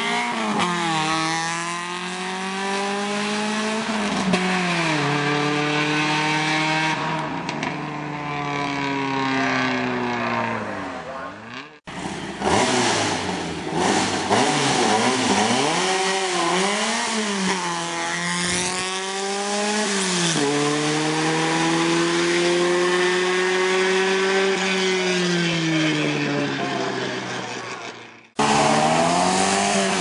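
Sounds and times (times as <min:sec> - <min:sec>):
race car engine accelerating: 0:00.0 - 0:30.0.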